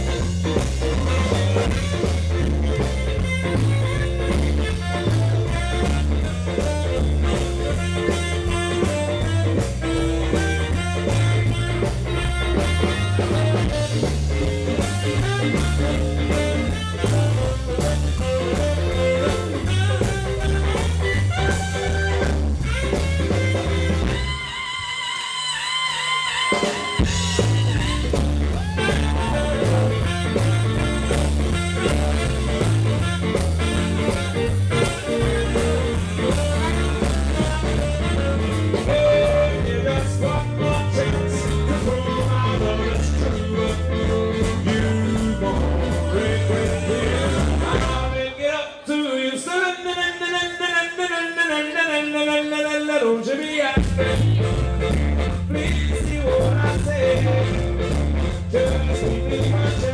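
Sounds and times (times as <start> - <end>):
live band music: 0.0 - 48.5, 53.8 - 59.9.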